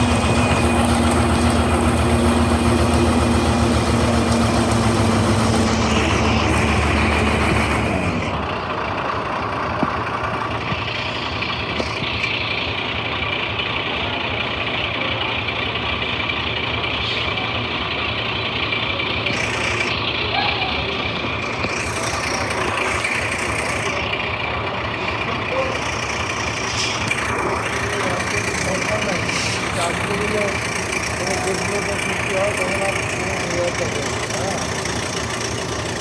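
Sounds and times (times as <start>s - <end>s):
concrete mixer engine throbbing: 0.0s - 36.0s.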